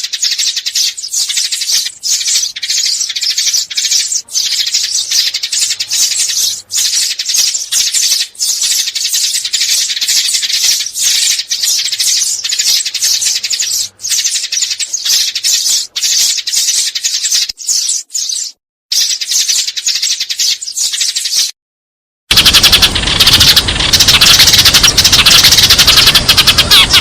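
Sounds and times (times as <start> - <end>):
sparrows chattering: 0.0 - 21.6, 22.3 - 27.0.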